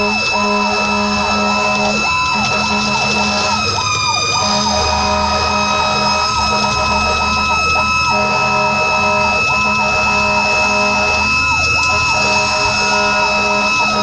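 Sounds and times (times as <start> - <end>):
fire engine siren wailing: 0.0 - 14.0
steady high tone: 0.0 - 14.0
truck engine rumbling: 0.0 - 14.0.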